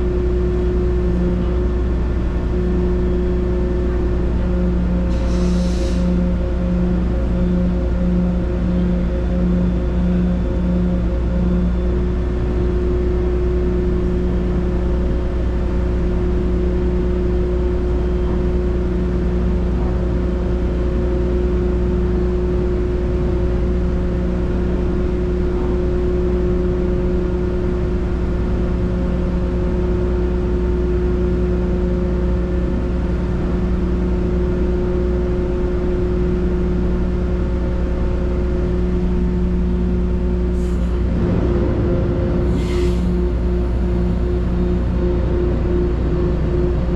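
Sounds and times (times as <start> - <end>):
ferry diesel engine droning: 0.0 - 46.9.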